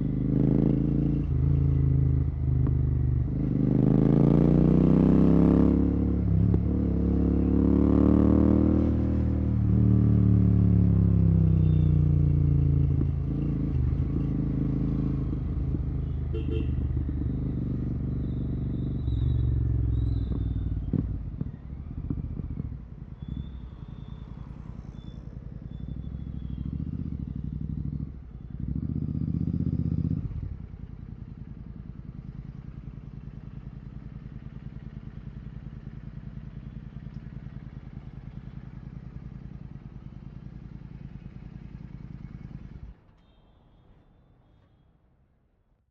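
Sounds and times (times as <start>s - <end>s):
motorcycle engine revving and idling: 0.0s - 43.1s.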